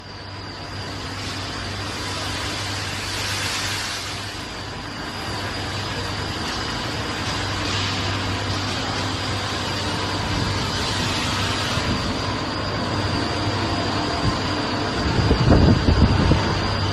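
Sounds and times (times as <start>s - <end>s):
furnace low hum: 0.0s - 16.9s
high-pitched whine: 0.0s - 16.9s.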